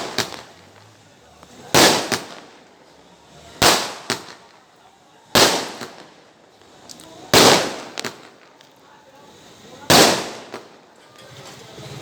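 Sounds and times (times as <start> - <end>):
firecracker bangs: 0.0 - 4.7, 5.3 - 8.6, 9.4 - 12.0
small firecracker pops: 0.0 - 4.7, 5.3 - 8.8, 9.8 - 11.6.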